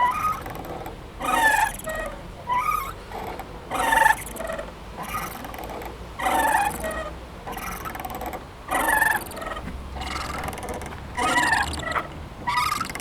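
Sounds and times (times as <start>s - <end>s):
swing squeaking: 0.0s - 13.0s.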